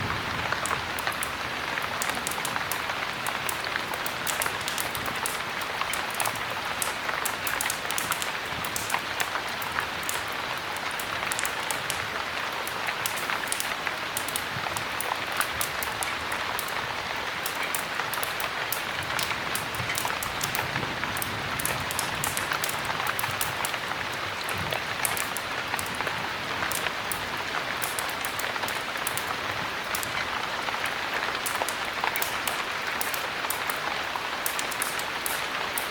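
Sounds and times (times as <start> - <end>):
heavy rain hiss: 0.0 - 35.9
sharp ticks of raindrops: 0.0 - 35.9.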